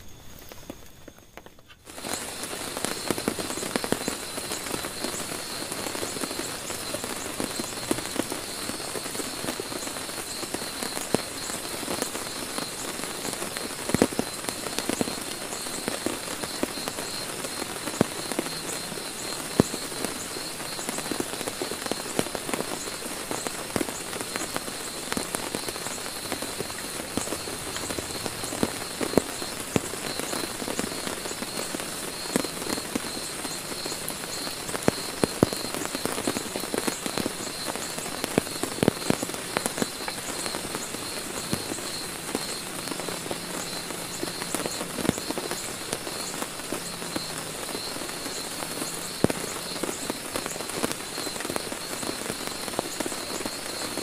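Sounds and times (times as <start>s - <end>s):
heavy rain on a tent: 0.0s - 54.0s.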